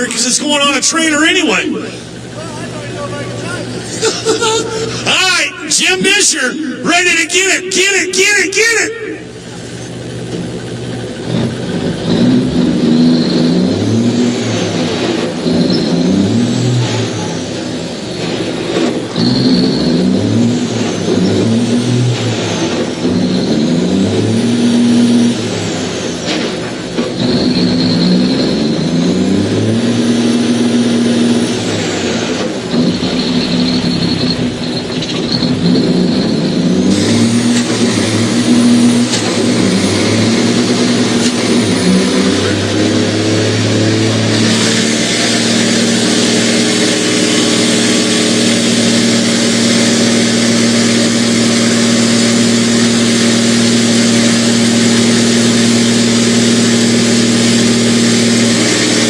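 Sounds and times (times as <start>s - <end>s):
diesel truck engine revving: 0.0s - 59.0s.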